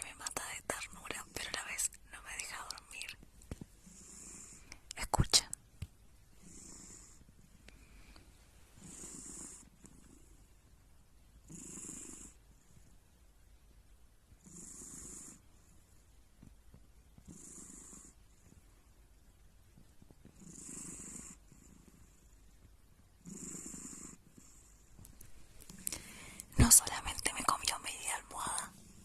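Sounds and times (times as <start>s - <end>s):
cat snoring faintly: 0.0s - 3.2s, 3.8s - 5.6s, 6.3s - 10.7s, 11.4s - 13.1s, 14.3s - 18.9s, 20.0s - 25.1s, 25.7s - 29.0s.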